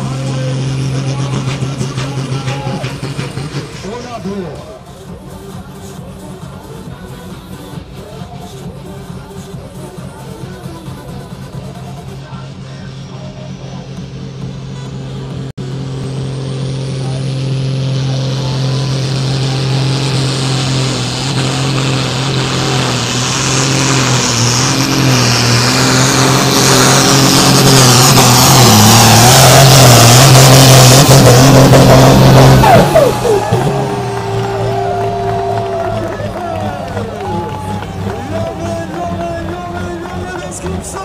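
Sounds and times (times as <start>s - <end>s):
tractor diesel engine revving: 0.0s - 41.0s.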